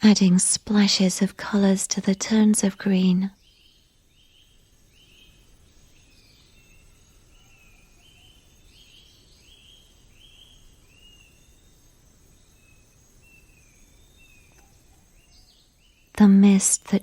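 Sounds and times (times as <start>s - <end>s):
soft steady hiss: 0.0s - 17.0s.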